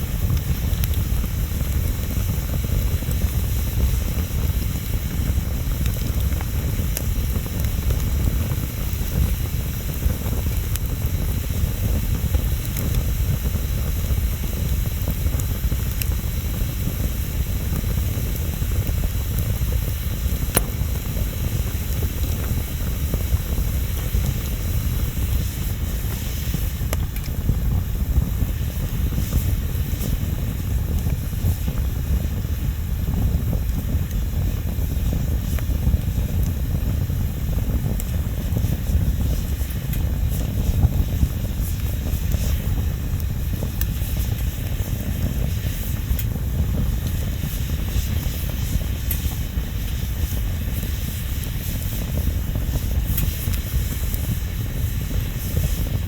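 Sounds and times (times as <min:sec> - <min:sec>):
bonfire rumbling: 0:00.0 - 0:56.0
fire crackling and popping: 0:00.0 - 0:56.0.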